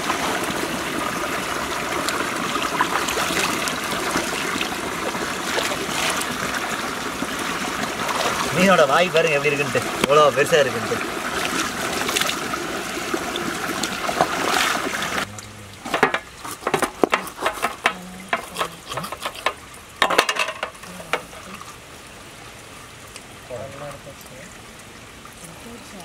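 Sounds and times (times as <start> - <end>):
stream water rushing over stones: 0.0 - 26.0.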